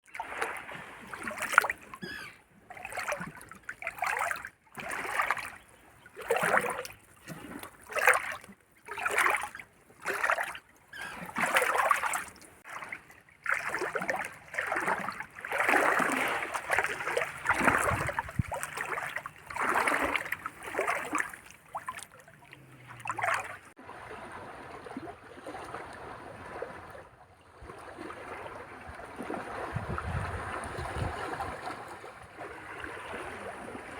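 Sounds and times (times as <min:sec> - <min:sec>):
small waves lapping and splashing: 0:00.0 - 0:33.9.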